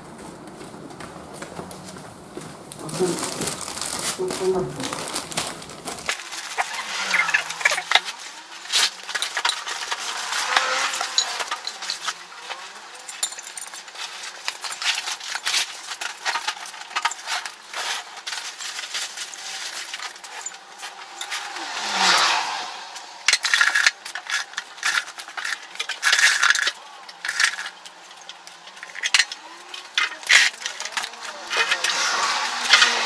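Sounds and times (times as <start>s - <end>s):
rustling: 0.2s - 33.0s
charcoal and metal clinking: 2.8s - 22.4s, 23.3s - 33.0s.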